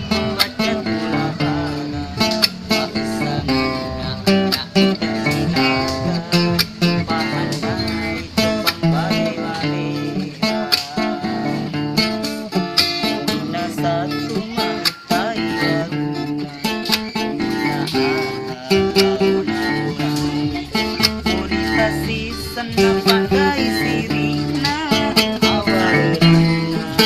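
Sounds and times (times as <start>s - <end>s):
acoustic guitar with other instruments: 0.0s - 27.0s.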